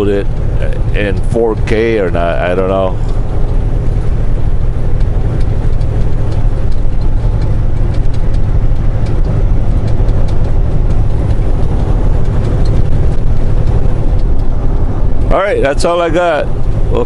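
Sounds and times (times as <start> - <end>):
road rumble: 0.0 - 17.0
truck engine drone: 0.0 - 17.0.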